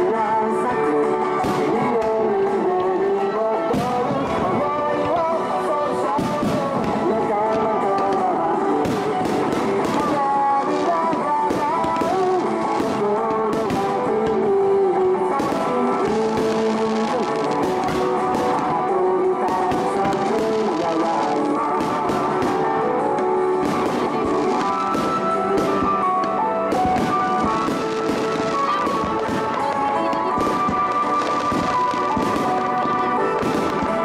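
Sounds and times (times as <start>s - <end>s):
firework bursts and crackles: 0.0s - 34.0s
music playing: 0.0s - 34.0s.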